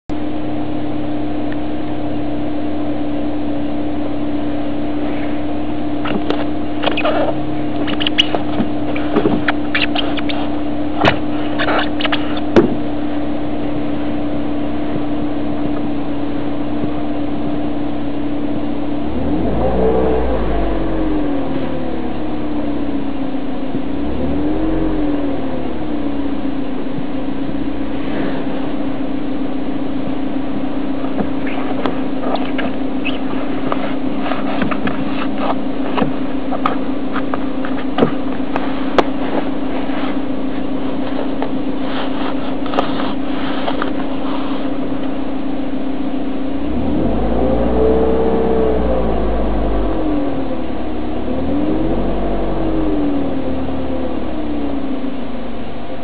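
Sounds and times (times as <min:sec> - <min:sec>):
car engine idling: 0:00.1 - 0:56.0
car engine revving: 0:03.5 - 0:55.8.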